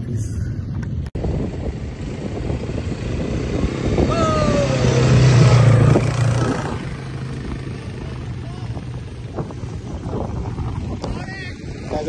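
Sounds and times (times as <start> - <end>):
quad bike engine running: 1.2 - 12.0.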